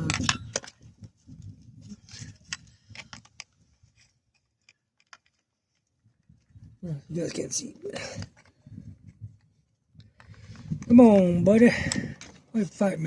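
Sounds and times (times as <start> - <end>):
handling rustle: 0.0 - 11.3.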